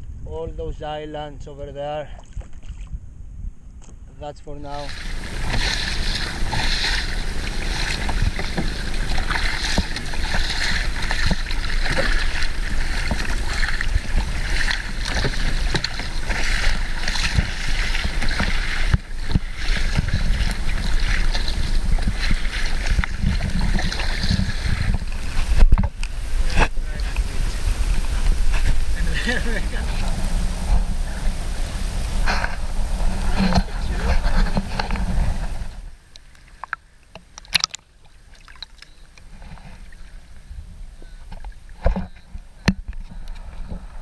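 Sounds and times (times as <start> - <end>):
wind rumble on microphone: 0.0 - 36.0, 39.0 - 44.0
water splashing against kayak: 4.6 - 44.0.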